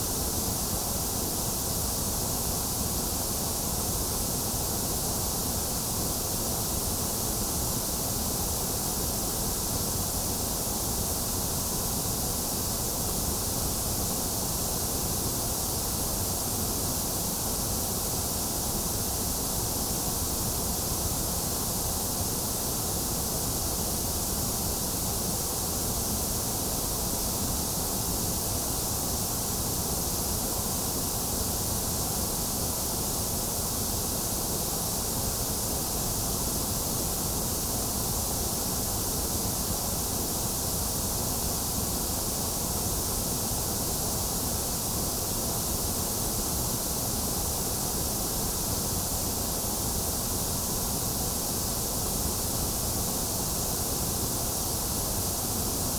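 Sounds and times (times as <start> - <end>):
electronic white noise hiss: 0.0 - 55.9.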